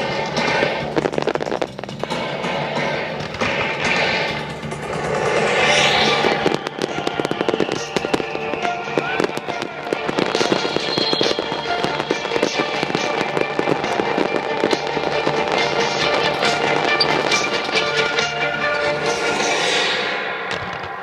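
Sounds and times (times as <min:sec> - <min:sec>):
music playing: 0:00.0 - 0:20.9
fireworks bursting and crackling: 0:00.0 - 0:21.0.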